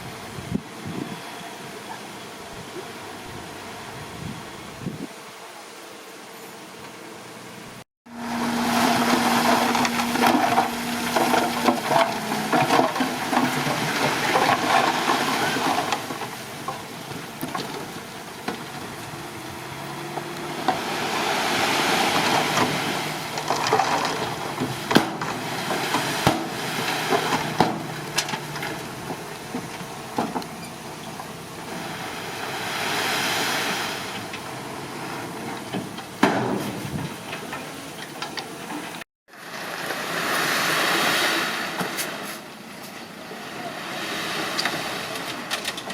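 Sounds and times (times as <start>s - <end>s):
bulldozer pushing earth and rock: 8.1s - 45.9s.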